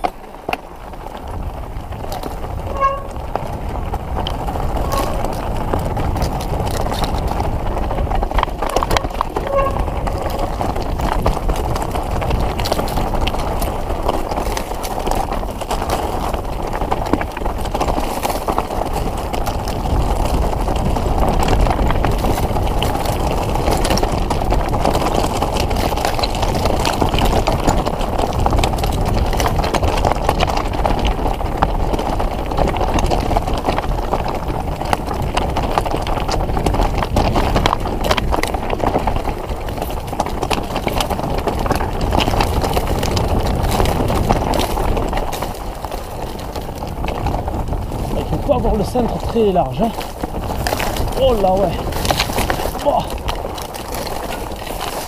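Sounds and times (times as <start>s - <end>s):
bike tyres rumbling on rocks: 0.0s - 55.0s
rocks and bike rattling: 0.0s - 55.0s.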